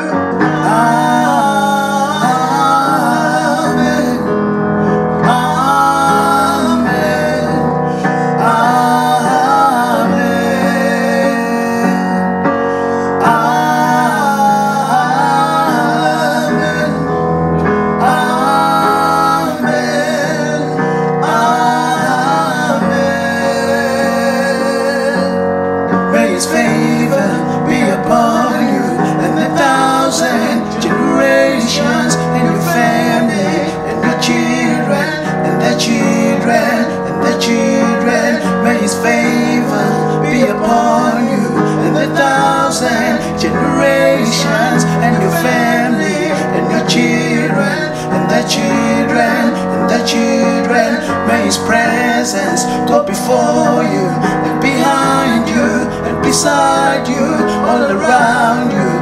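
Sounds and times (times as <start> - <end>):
electronic keyboard chords: 0.0 - 59.0.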